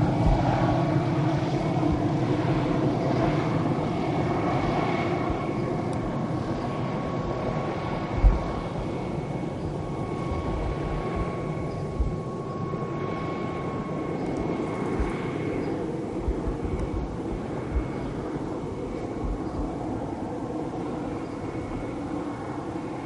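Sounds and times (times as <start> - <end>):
helicopter engine drone: 0.0 - 23.0
turbine whine: 0.0 - 23.0.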